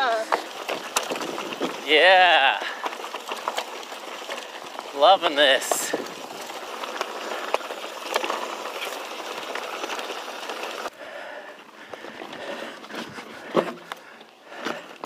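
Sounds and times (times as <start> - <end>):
bike tyres on dirt and rock: 0.0 - 15.0.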